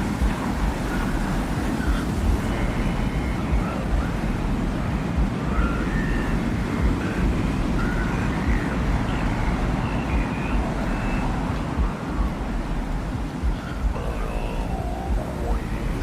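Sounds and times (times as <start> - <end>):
gusting wind rumble: 0.0 - 16.0.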